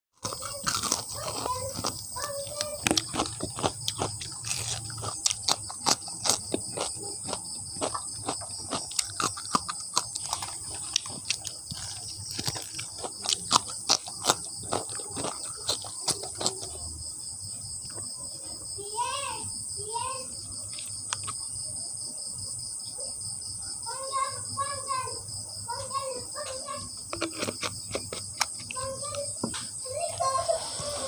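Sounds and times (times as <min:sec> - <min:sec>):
crunching and chewing: 0:00.1 - 0:18.8, 0:20.4 - 0:22.2, 0:25.8 - 0:31.0.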